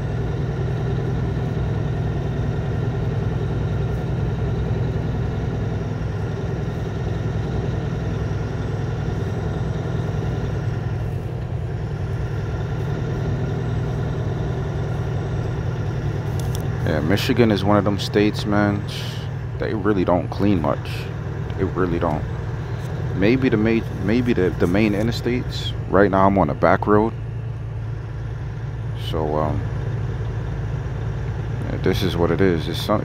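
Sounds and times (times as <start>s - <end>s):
road noise: 0.0s - 33.0s
truck diesel engine drone: 0.0s - 33.0s.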